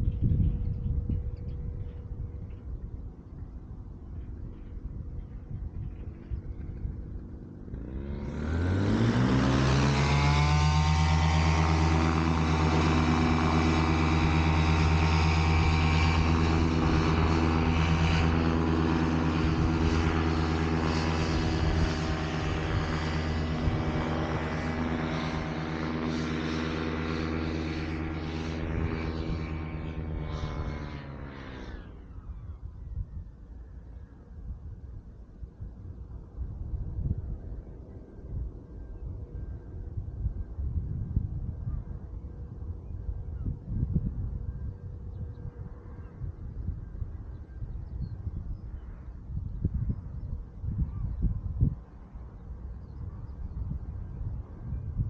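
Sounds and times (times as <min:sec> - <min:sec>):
two-stroke engine and propeller: 0:00.0 - 0:55.0.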